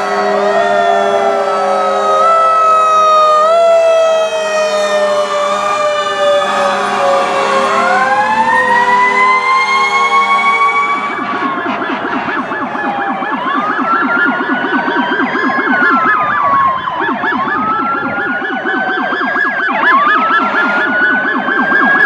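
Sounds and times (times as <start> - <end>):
fire truck sirens wailing: 0.0 - 22.0
siren warbling yelp: 0.0 - 22.0.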